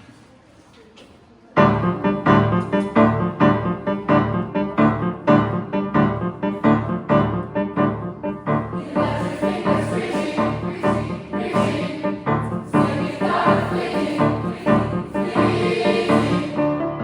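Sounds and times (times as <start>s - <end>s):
piano playing repeated chords: 1.6s - 17.0s.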